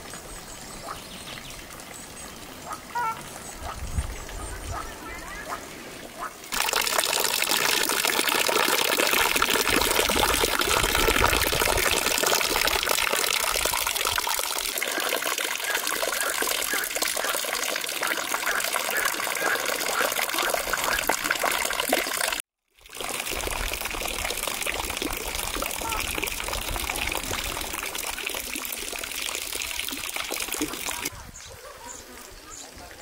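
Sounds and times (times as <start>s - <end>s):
water running: 0.0s - 31.1s.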